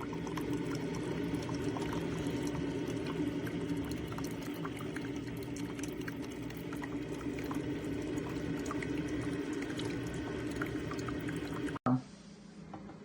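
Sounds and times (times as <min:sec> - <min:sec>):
coffee maker humming: 0:00.0 - 0:11.8
hot water bubbling and trickling: 0:00.0 - 0:11.8.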